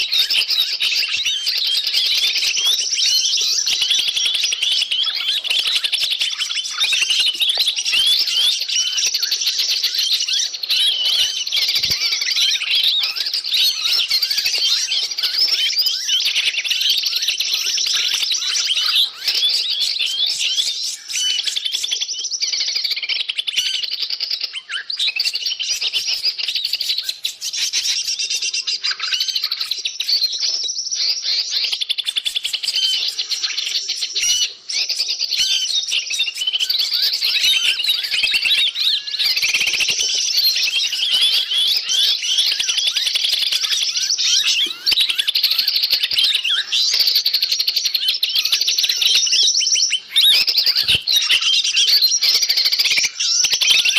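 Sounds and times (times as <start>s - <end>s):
flock of small birds chirping: 0.0s - 53.9s.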